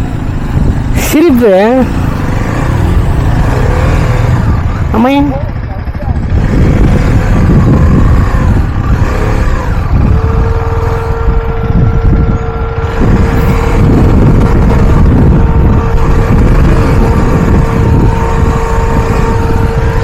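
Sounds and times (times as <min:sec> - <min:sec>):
motorcycle engine: 0:00.0 - 0:20.0
wind buffeting microphone: 0:00.0 - 0:20.0.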